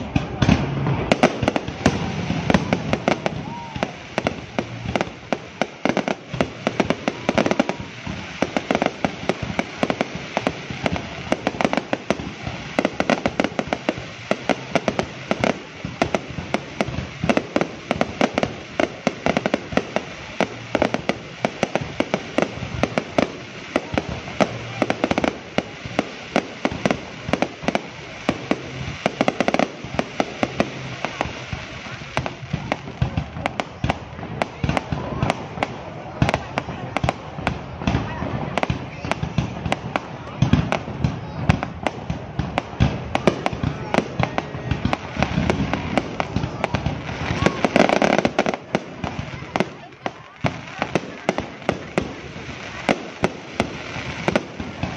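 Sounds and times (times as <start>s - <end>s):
fireworks bursting and crackling: 0.0s - 54.9s.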